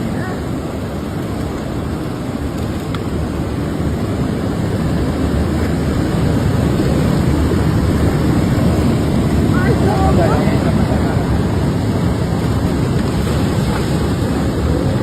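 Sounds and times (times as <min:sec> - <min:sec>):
rushing floodwater rumble: 0:00.0 - 0:15.0.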